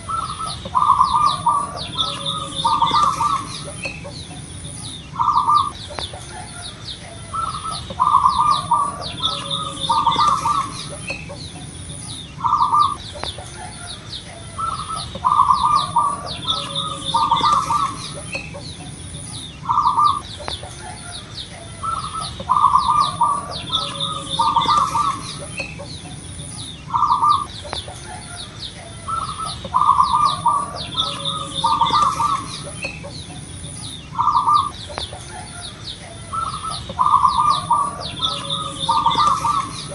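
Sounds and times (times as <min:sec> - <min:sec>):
pulsing high insect whine: 0:00.0 - 0:05.9, 0:07.3 - 0:13.2, 0:14.6 - 0:20.4, 0:21.8 - 0:27.6, 0:29.1 - 0:34.9, 0:36.3 - 0:39.9
doves cooing: 0:00.0 - 0:39.9
small birds chirping: 0:00.0 - 0:39.9.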